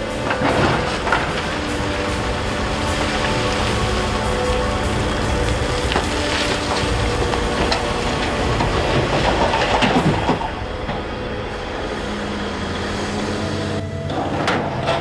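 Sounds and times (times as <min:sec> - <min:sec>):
metal clanking: 0:00.0 - 0:11.9, 0:14.1 - 0:15.0
water rushing: 0:00.0 - 0:14.1
excavator diesel engine: 0:00.0 - 0:15.0.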